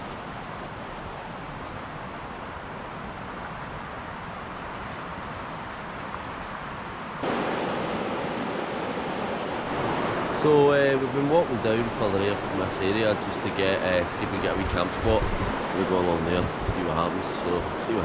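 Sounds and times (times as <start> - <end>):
outdoor rushing noise: 0.0 - 18.0.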